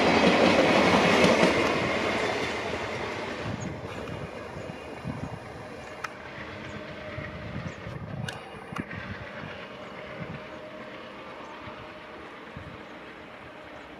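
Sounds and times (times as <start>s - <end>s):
train wheels rumbling on rails: 0.0s - 13.9s.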